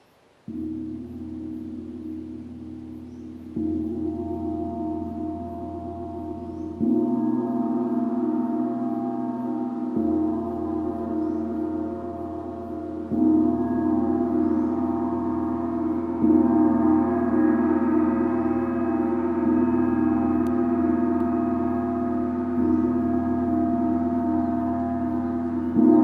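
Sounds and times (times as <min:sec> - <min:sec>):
gong ringing: 0:03.6 - 0:26.0.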